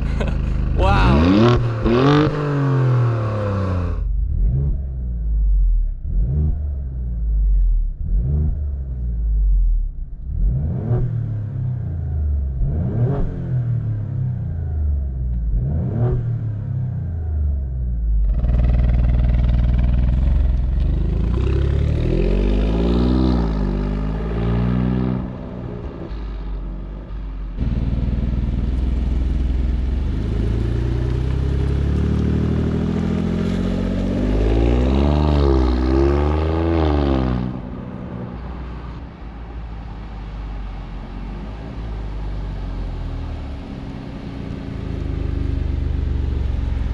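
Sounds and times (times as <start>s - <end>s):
car engine revving: 0.0s - 39.3s.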